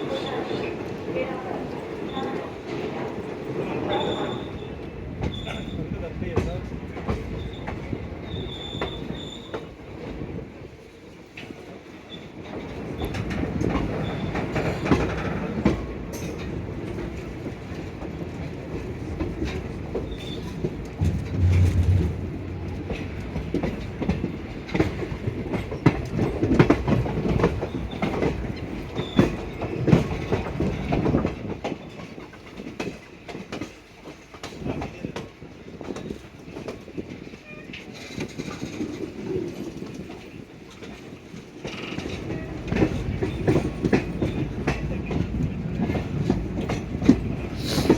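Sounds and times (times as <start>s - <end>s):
train wheels clickety-clack: 0.0s - 47.9s.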